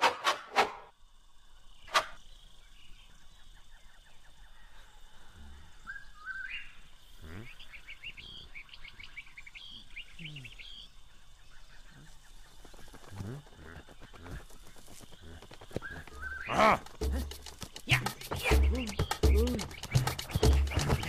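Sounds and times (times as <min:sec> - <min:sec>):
birds chirping: 0:01.7 - 0:21.0.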